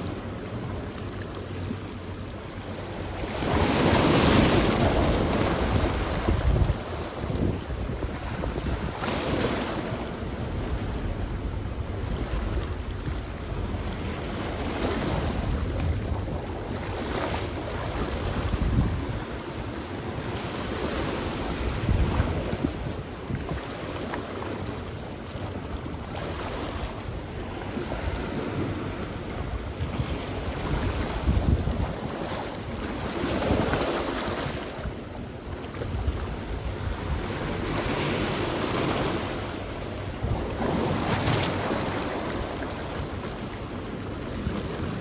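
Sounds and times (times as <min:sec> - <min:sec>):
sea waves washing onto beach: 0:00.0 - 0:45.0
wind buffeting microphone: 0:01.7 - 0:45.0.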